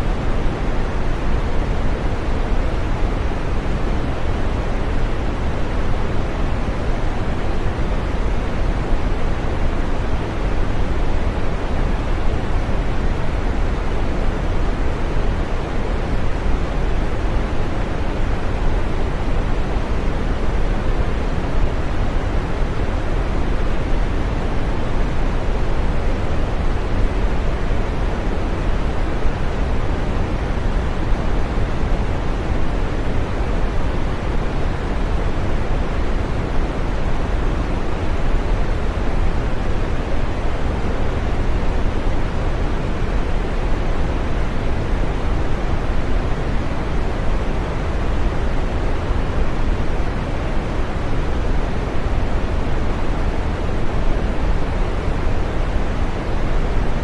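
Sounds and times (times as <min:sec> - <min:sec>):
steady green noise: 0:00.0 - 0:57.0.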